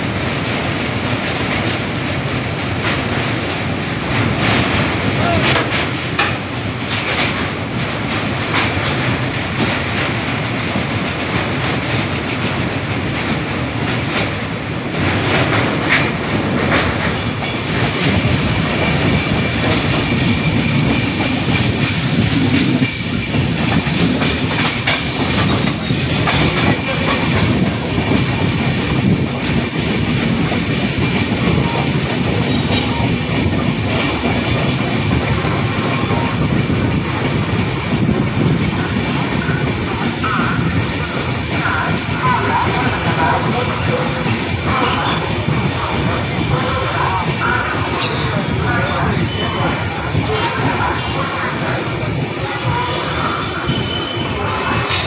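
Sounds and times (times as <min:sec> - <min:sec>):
train coach rumble: 0:00.0 - 0:55.0
wheels clickety-clack over rail joints: 0:00.0 - 0:55.0.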